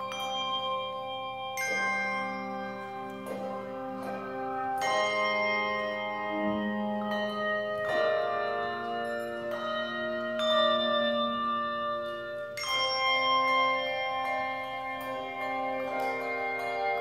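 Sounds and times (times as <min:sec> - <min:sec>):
handbell chords ringing: 0:00.0 - 0:17.0.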